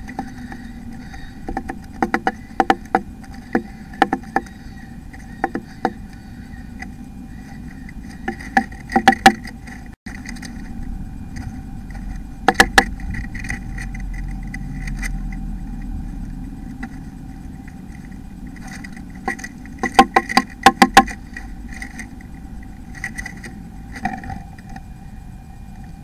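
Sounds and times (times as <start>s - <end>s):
bird tapping inside wooden nest box: 0.0s - 10.6s, 11.3s - 15.9s, 17.6s - 24.8s
steady background hum: 0.0s - 26.0s.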